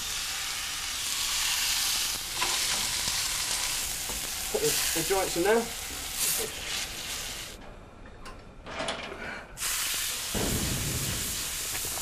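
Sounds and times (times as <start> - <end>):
meat sizzling in a frying pan: 0.0 - 7.6, 9.6 - 12.0.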